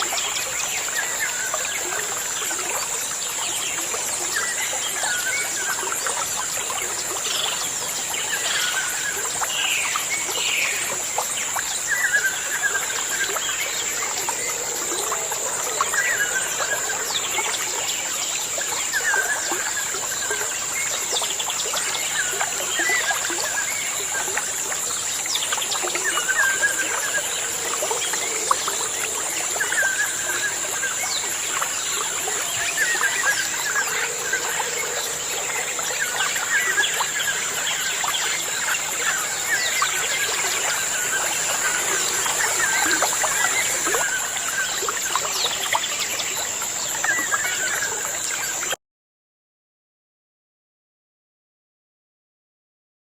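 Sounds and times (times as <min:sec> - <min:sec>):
birds chirping and twittering: 0:00.2 - 0:48.7.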